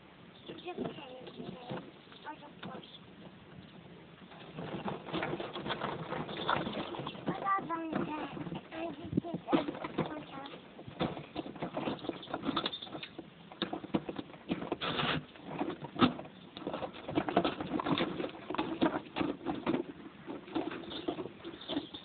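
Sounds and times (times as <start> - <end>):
plastic wheels rolling over paving: 0.4 - 22.0.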